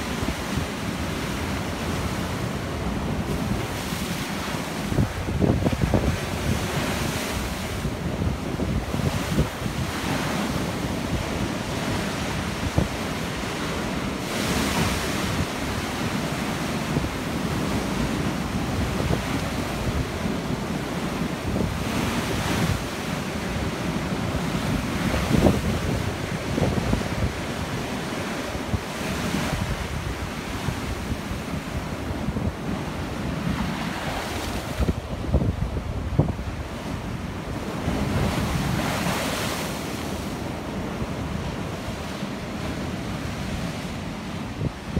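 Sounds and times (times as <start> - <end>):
rush of water: 0.0 - 44.9
wind buffeting microphone: 0.0 - 44.9.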